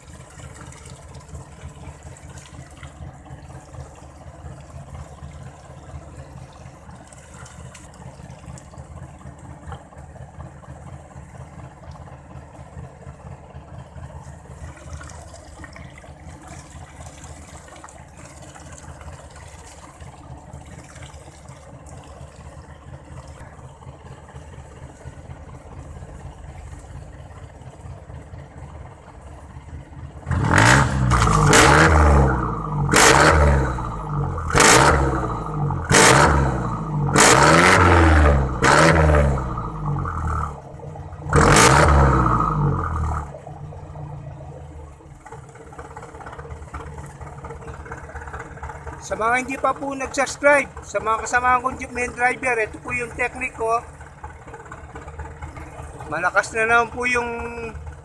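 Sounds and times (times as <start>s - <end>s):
engine idling: 0.0s - 58.0s
engine revving with exhaust blasts: 0.0s - 58.0s
water pouring into tailpipe: 0.0s - 58.0s.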